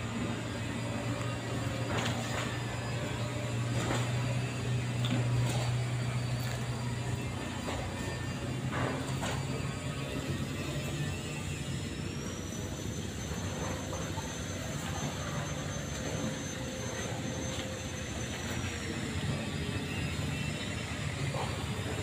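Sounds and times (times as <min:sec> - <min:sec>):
machine droning with high whine: 0:00.0 - 0:22.0.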